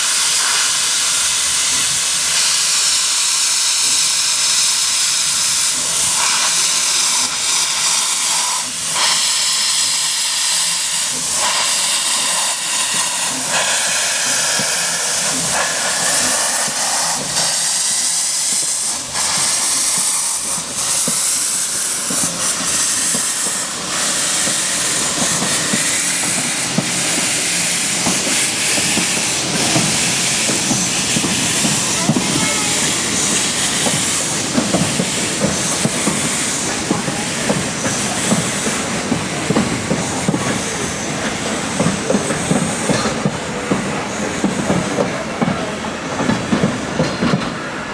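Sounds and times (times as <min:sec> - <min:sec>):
low rumble of train rolling: 0:00.0 - 0:47.9
steam locomotive hissing: 0:00.0 - 0:47.9.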